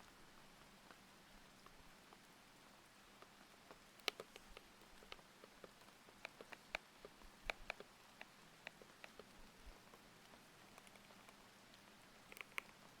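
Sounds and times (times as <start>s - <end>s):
faint rain: 0.0s - 13.0s.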